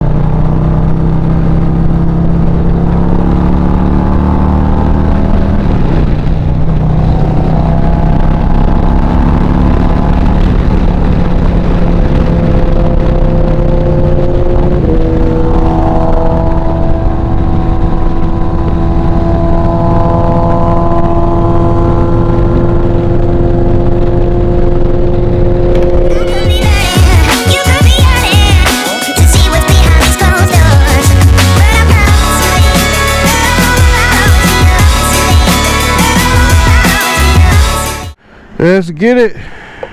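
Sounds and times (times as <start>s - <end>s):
motorcycle engine running: 0.0s - 38.2s.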